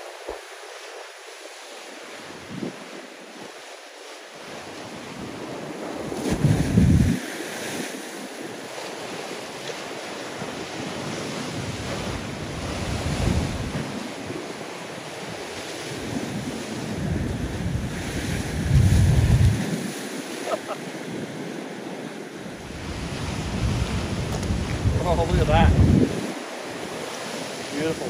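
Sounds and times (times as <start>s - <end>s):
ocean swell breaking on rocks: 0.0s - 28.0s
wind buffeting microphone: 2.1s - 3.5s, 4.8s - 28.0s.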